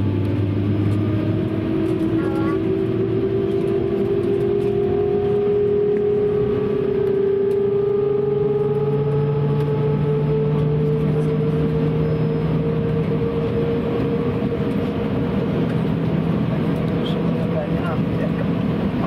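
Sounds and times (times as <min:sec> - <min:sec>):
jet engines whining: 0:00.0 - 0:19.0
low engine tone: 0:00.0 - 0:19.0.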